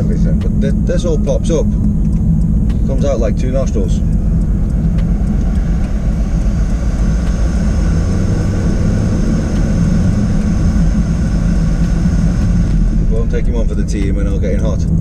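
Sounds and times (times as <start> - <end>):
car engine and road rumble: 0.0 - 15.0
faint high whine: 0.0 - 15.0.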